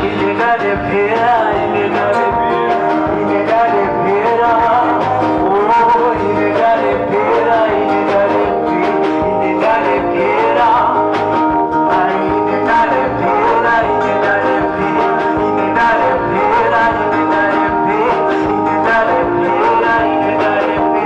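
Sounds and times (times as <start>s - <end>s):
acoustic guitar strummed and plucked: 0.0s - 21.0s
person singing: 0.0s - 21.0s.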